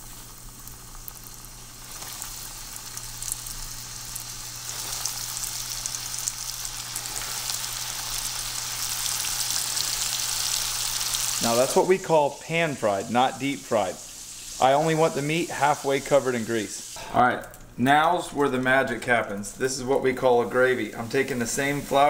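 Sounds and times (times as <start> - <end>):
meat sizzling with crackles: 0.0 - 17.7, 18.4 - 22.0.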